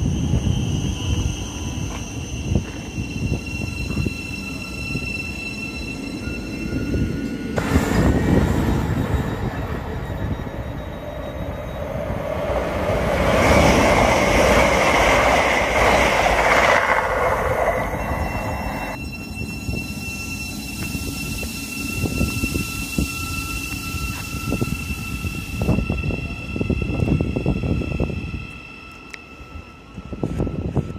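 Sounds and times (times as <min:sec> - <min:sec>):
high-pitched electrical whine: 0:00.0 - 0:30.9
train passing at speed: 0:00.0 - 0:30.9.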